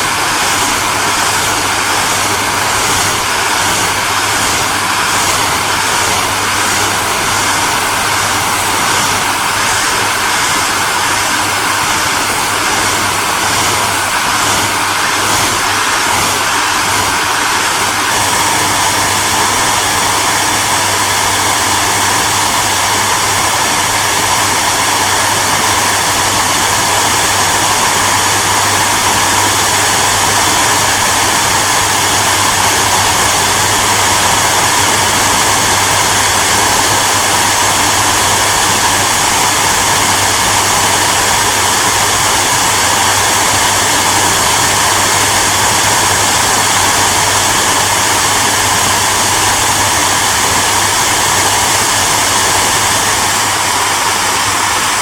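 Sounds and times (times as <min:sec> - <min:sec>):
hair dryer blowing air: 0:00.0 - 0:55.0.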